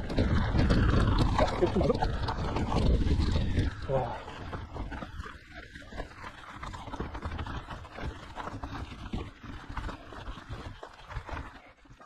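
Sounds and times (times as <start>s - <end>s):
bike rattling over bumps: 0.0s - 12.0s
tyres crunching on gravel: 0.0s - 12.0s.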